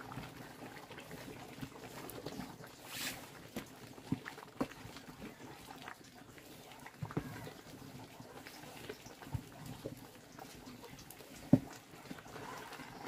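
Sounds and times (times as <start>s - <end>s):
pot bubbling and sloshing: 0.0s - 13.0s.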